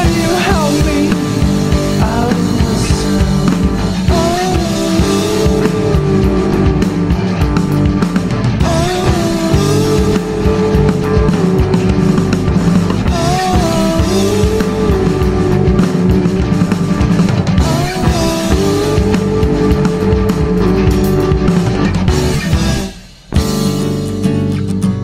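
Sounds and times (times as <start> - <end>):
indie rock music: 0.0 - 25.0.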